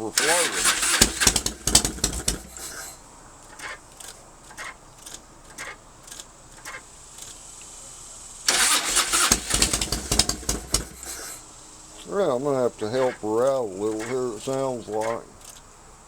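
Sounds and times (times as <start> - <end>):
electric starter cranking engine: 0.0 - 16.0
faint regular clicks: 0.0 - 16.0.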